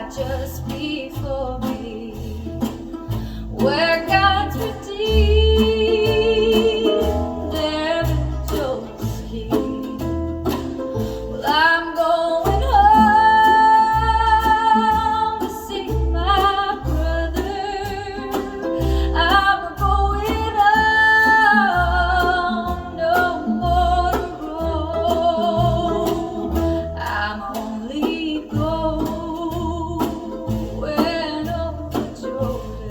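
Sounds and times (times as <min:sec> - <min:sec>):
country gospel song: 0:00.0 - 0:32.9.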